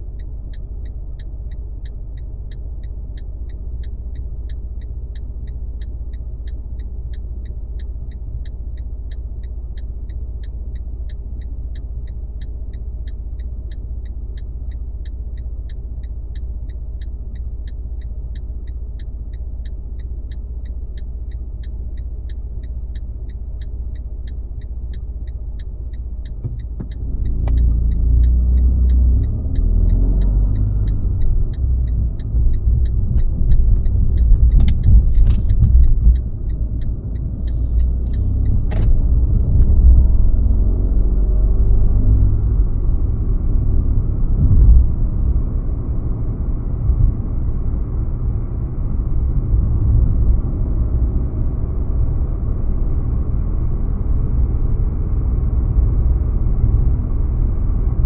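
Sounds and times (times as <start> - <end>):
car engine and road rumble: 0.0 - 58.0
turn signal ticking: 0.0 - 58.0.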